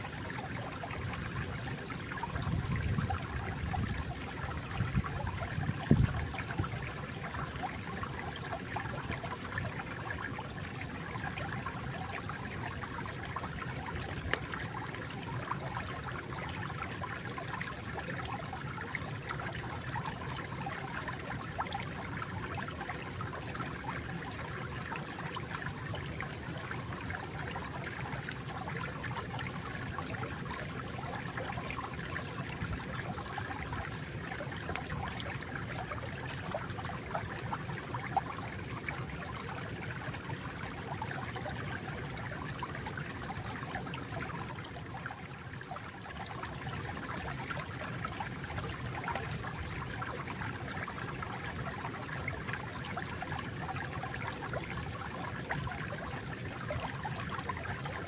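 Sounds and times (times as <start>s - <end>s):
water babbling over stones: 0.0s - 58.0s
water drips and splashes: 0.0s - 58.0s.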